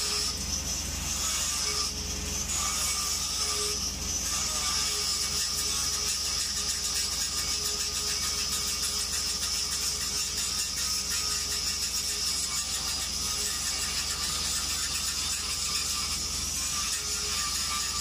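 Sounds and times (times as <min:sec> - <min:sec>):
welding arc hissing: 0:00.0 - 0:18.0.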